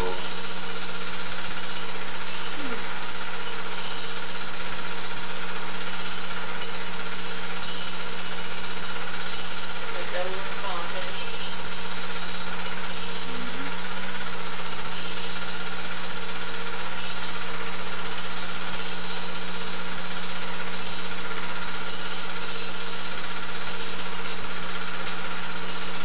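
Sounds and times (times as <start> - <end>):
film projector motor whirring: 0.0 - 26.0.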